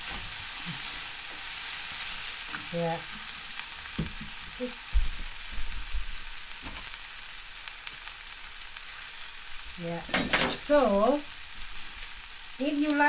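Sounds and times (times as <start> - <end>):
noodles sizzling in a hot pan: 0.0 - 13.0.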